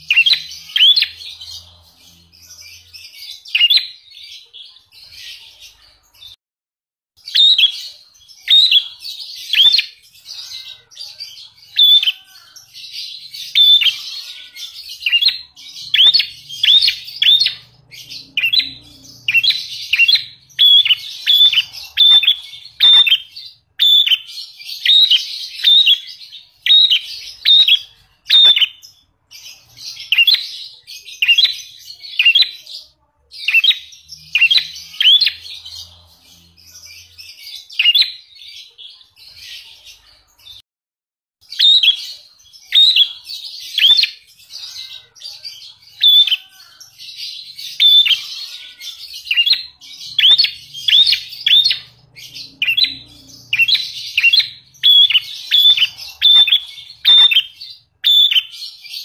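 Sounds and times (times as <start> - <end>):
bird chirping high calls: 0.0 - 6.4, 7.2 - 40.6, 41.4 - 59.0.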